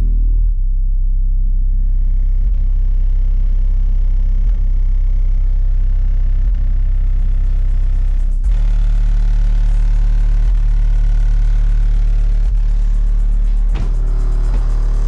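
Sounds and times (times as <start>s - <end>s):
subwoofer playing loud bass music: 0.0s - 15.0s.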